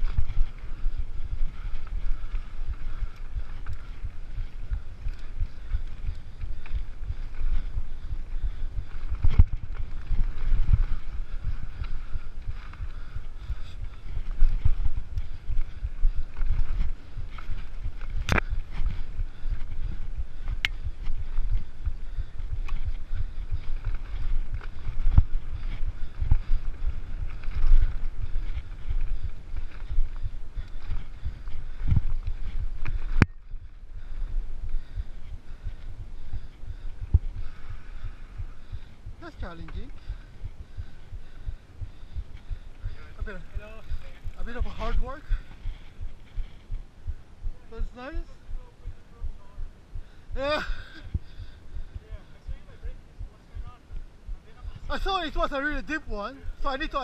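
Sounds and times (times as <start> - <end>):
bike rattles: 0.0 - 46.7
bike tyres rumbling on dirt: 0.0 - 48.0
wind on microphone: 0.0 - 54.9.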